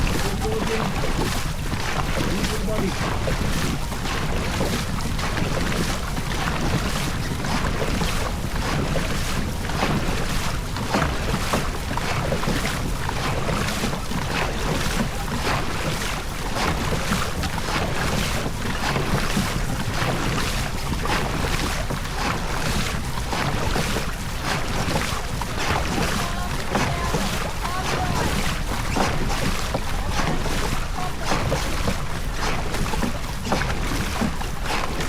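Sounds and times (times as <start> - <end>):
water rushing past boat hull: 0.0 - 35.0
wind buffeting microphone: 0.0 - 35.0.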